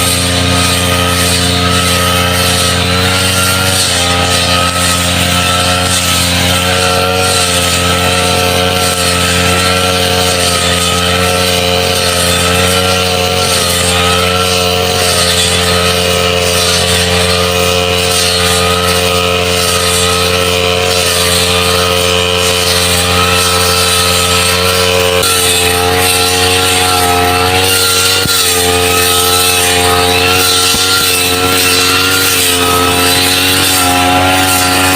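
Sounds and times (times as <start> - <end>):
brush cutter engine running: 0.0 - 34.9.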